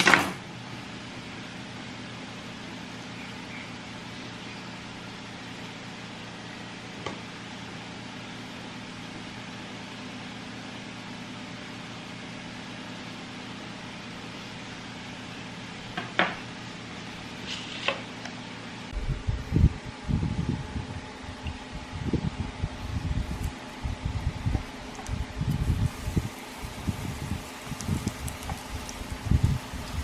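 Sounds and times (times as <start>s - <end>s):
steady low hum: 0.4s - 30.0s.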